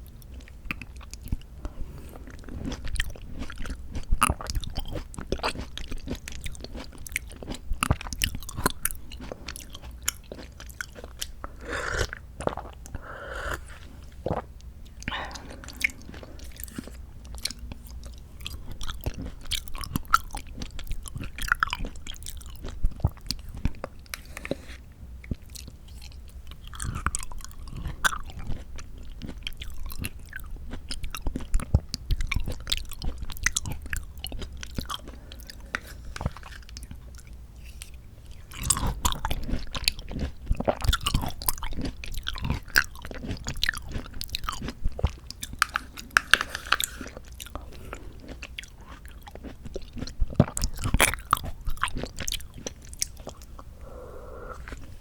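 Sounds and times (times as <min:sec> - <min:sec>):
mouth chewing wet fruit: 0:00.0 - 0:55.0.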